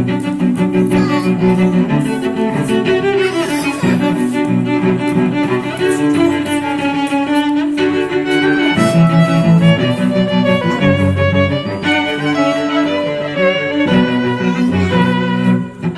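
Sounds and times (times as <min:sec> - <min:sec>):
violin and cello melody: 0:00.0 - 0:15.9.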